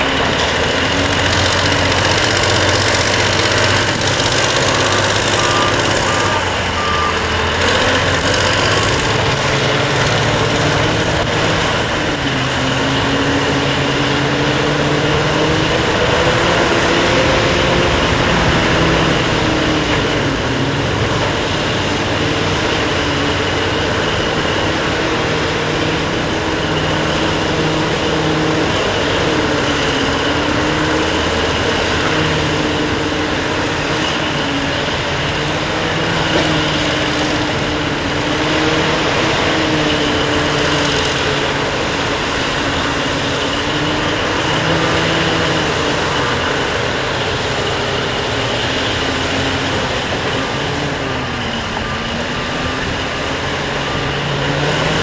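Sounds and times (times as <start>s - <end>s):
electric loading shovel working: 0.0s - 55.0s
truck engine idling: 0.0s - 55.0s.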